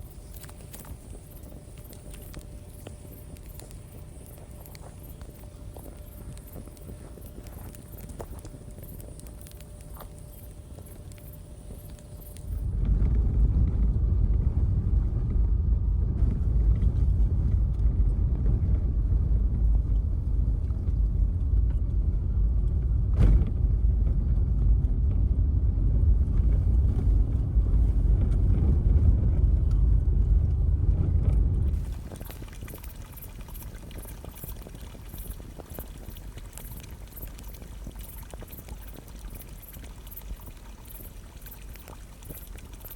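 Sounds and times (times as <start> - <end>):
low rumble: 0.0 - 42.9.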